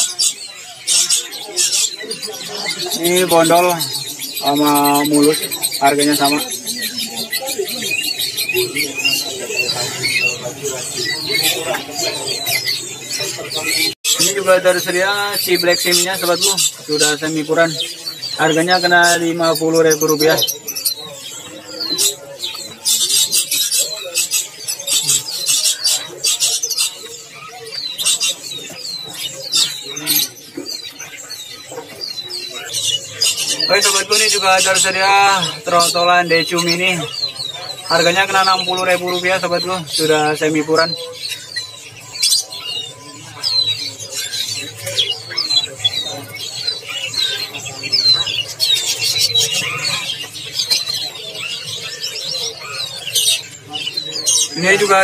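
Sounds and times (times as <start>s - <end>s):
low background murmur: 0.0s - 55.0s
small songbirds chirping: 0.0s - 55.0s.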